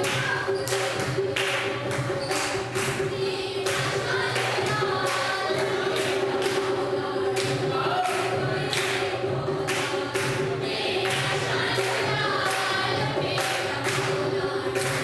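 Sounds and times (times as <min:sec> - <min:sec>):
group singing folk song: 0:00.0 - 0:15.0
sharp regular beats: 0:00.0 - 0:15.0.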